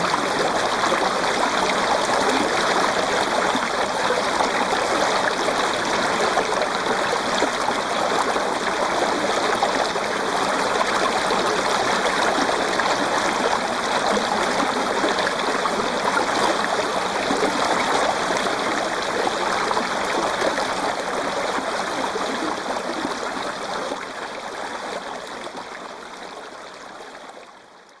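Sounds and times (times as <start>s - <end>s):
running water stream: 0.0s - 28.0s.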